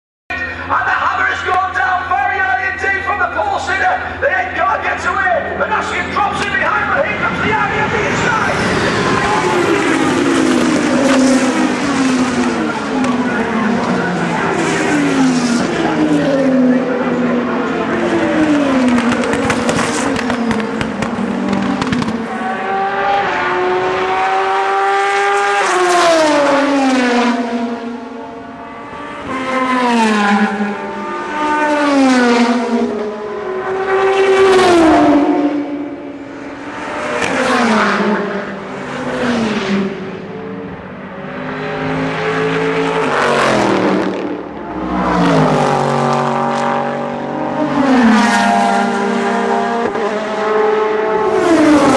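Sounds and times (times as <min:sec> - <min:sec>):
race cars passing at speed: 0:00.3 - 0:51.9
engines accelerating through gears: 0:02.6 - 0:51.9.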